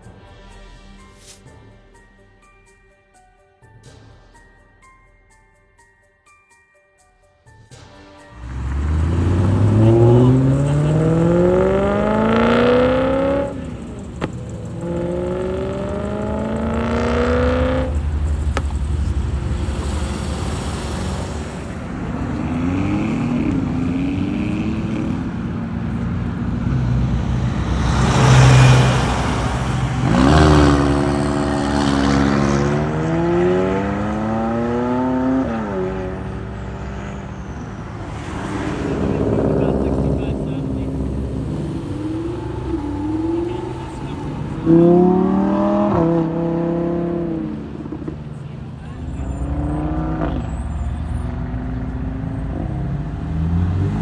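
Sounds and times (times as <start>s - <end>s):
cars accelerating hard: 8.3s - 54.0s.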